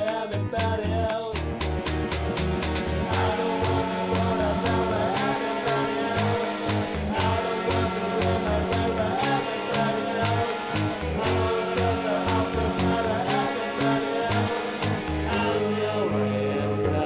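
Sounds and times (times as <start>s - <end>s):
bass line: 0.0s - 17.0s
drum machine beat: 1.4s - 15.5s
electric guitar: 1.4s - 17.0s.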